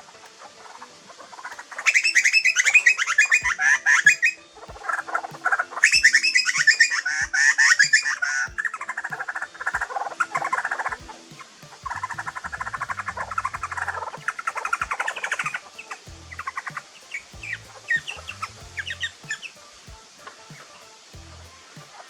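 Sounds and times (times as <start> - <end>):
background music with bass: 2.4 - 22.0.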